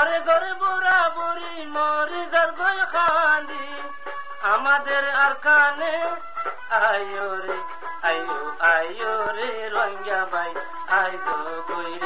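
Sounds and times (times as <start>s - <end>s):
instrumental backing: 0.0s - 12.0s
man singing: 0.0s - 12.0s.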